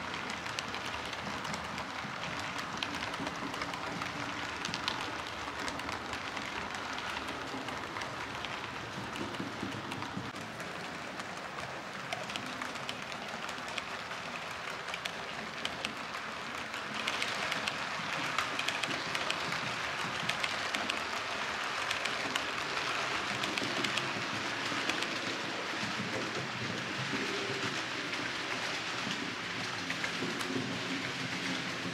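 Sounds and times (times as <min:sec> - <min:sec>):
model train wheels rattling on rails: 0:00.0 - 0:31.9.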